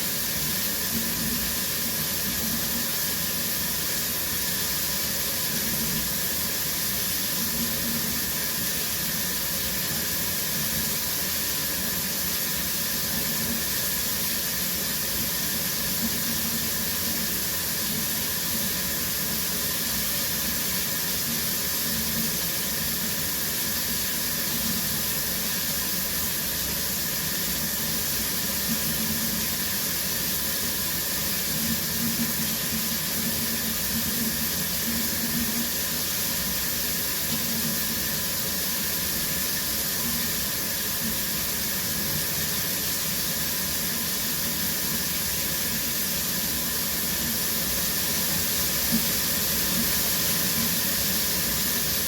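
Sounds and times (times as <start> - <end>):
shower running: 0.0 - 52.0.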